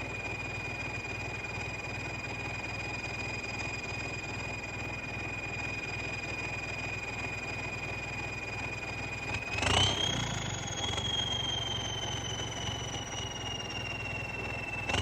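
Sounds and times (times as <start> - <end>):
vehicle engine whine: 0.0 - 15.0.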